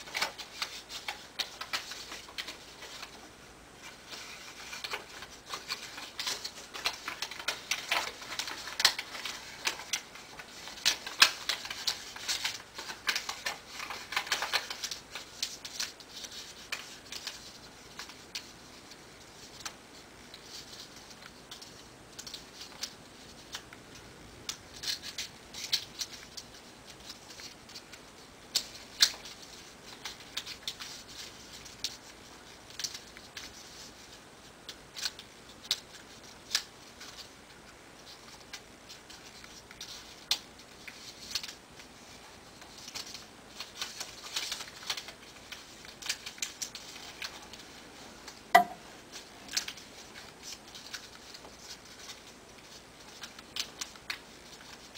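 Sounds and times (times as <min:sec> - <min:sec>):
paper folding and crackling: 0:00.0 - 0:54.9.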